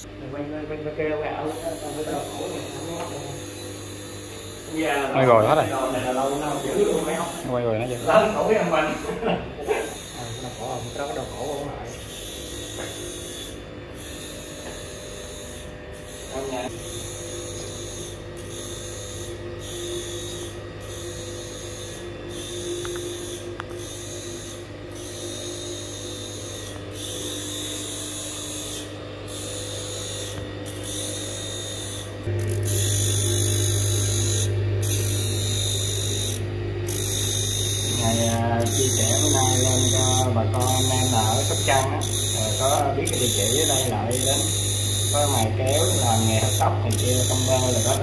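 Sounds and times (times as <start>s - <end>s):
sharpening machine motor hum: 0.0s - 48.0s.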